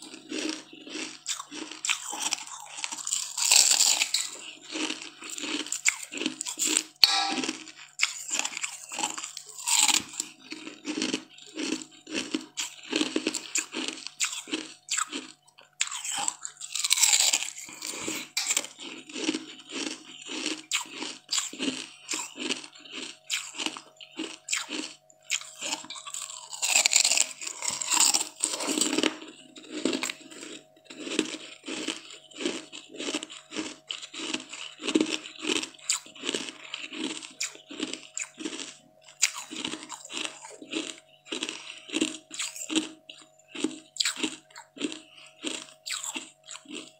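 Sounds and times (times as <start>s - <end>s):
person chewing crisp leaf: 0.0s - 46.9s.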